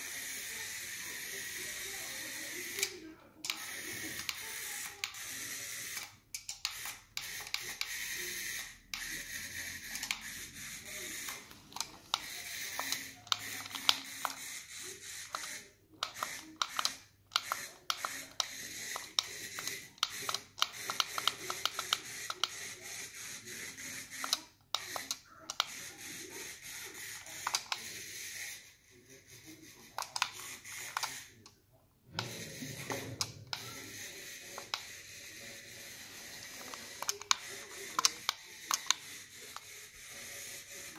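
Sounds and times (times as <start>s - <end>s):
toy motor whirring and clicking: 0.0s - 40.9s.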